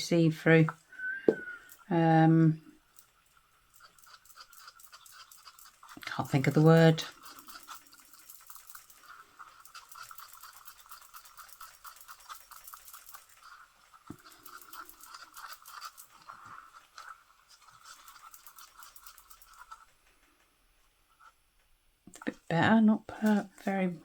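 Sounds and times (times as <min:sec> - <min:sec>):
stirrer scraping a cup: 0:00.7 - 0:20.1, 0:23.1 - 0:23.8.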